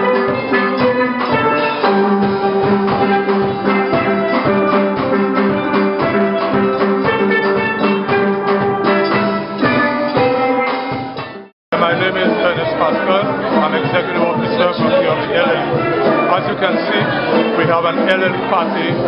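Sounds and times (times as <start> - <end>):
steel band playing: 0.0 - 19.0.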